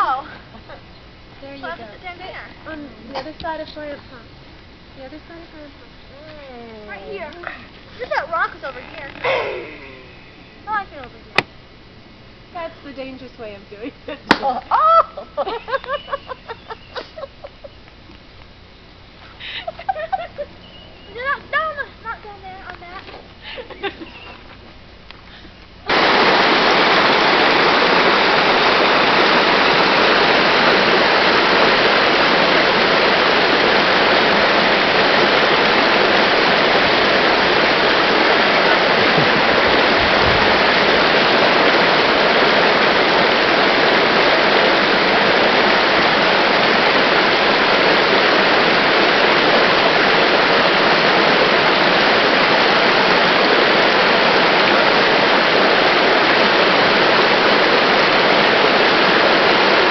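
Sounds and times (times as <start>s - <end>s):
water rushing: 0.0s - 11.5s, 19.0s - 24.2s, 25.7s - 59.9s.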